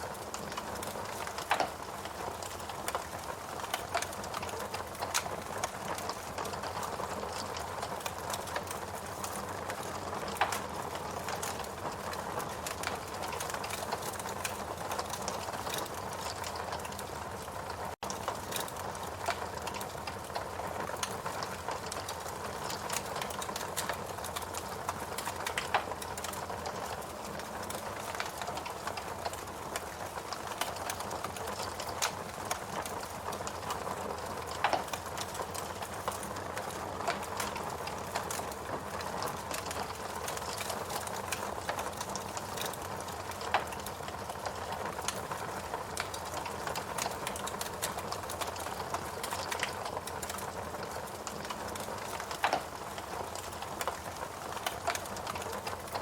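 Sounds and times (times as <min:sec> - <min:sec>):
logs crackling and popping: 0:00.0 - 0:56.0
wood fire hissing: 0:00.0 - 0:56.0.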